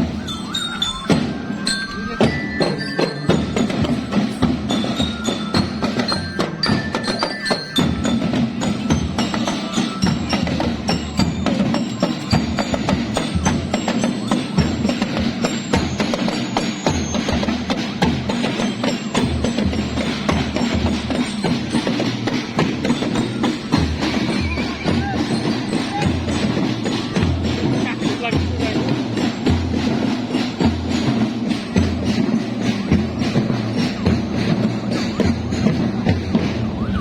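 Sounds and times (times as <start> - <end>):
bell-lyre melody: 0.0 - 36.8
snare and bass drumming: 0.0 - 37.0.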